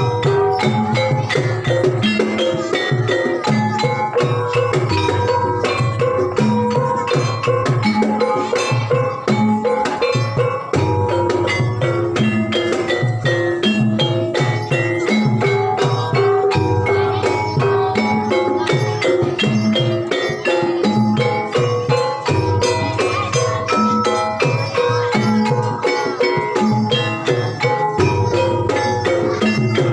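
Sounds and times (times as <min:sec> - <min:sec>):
hand drum pattern: 0:00.0 - 0:29.9
mallet-struck keyed instruments: 0:00.0 - 0:29.9.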